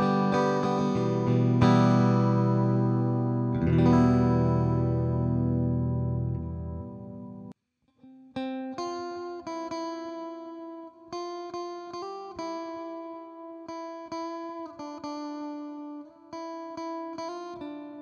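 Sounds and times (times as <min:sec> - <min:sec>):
clean electric guitar melody: 0:00.0 - 0:18.0.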